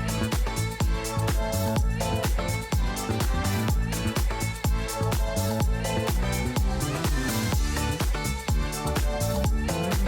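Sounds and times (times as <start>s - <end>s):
upbeat electronic dance music: 0.0s - 10.0s.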